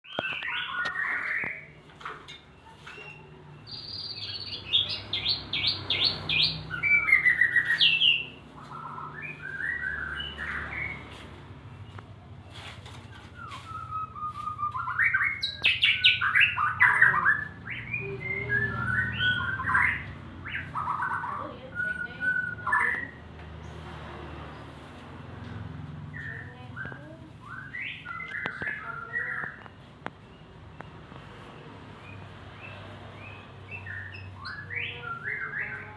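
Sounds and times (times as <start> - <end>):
songbird whistling and trilling: 0.0 - 1.8, 2.6 - 12.0, 13.0 - 23.2, 26.1 - 29.8, 32.0 - 35.9.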